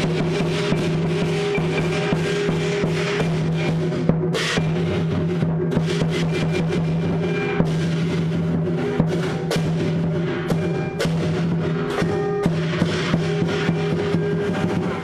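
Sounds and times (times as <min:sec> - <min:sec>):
cymbals clashing: 0:00.0 - 0:15.0
drum beating: 0:00.0 - 0:15.0.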